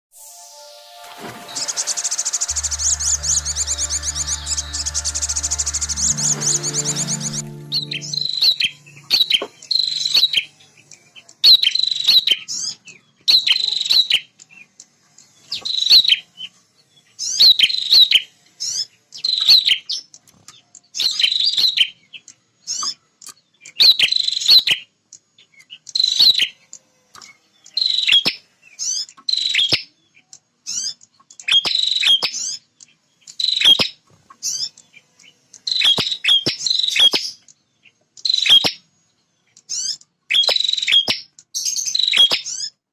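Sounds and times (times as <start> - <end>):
bird singing high chirps: 0.2 - 14.7, 15.3 - 20.2, 20.9 - 42.8.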